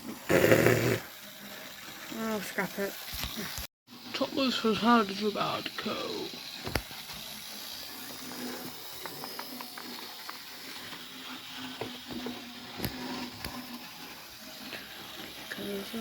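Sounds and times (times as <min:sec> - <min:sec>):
toy train motor hum: 0:00.0 - 0:16.0.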